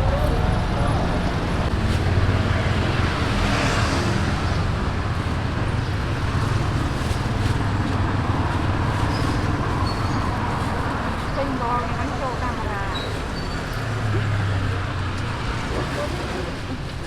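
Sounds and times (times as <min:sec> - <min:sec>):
vehicles passing on road: 0:00.0 - 0:17.0.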